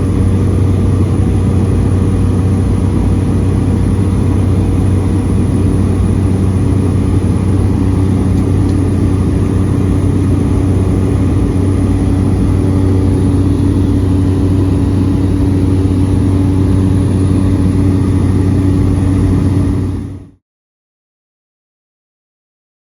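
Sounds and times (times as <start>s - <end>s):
turboprop engine drone: 0.0s - 20.4s.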